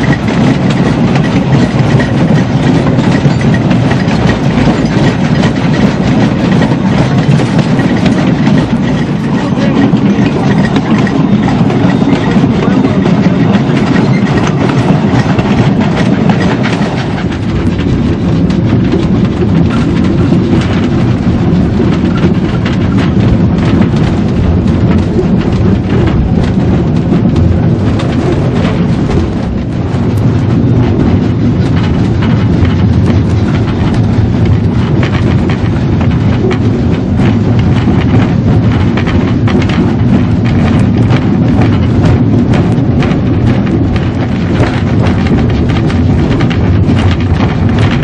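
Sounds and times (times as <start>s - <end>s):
steam locomotive rumbling: 0.0s - 48.0s
wheels clattering on rails: 0.0s - 48.0s.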